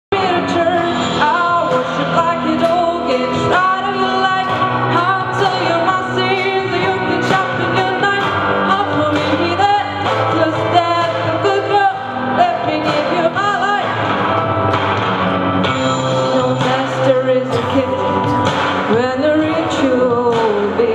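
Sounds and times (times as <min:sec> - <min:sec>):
person singing: 0:00.1 - 0:14.2, 0:16.1 - 0:20.9
band accompaniment: 0:00.1 - 0:20.9.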